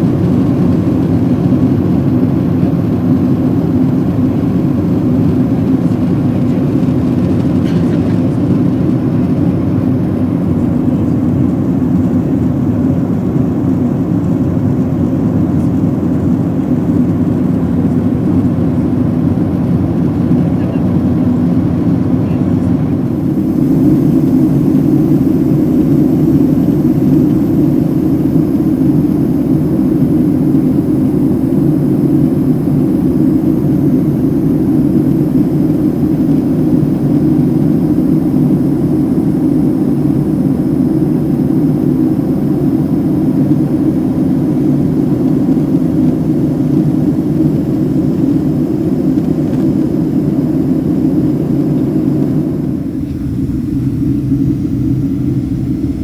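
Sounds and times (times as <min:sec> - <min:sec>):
airliner cabin jet engine drone: 0:00.0 - 0:56.0.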